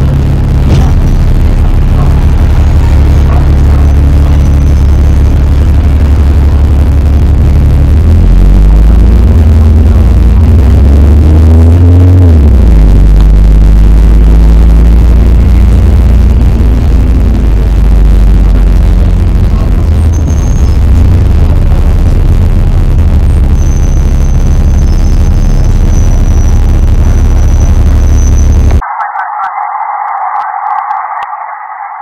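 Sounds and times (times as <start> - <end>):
distorted bus engine drone: 0.0 - 32.0.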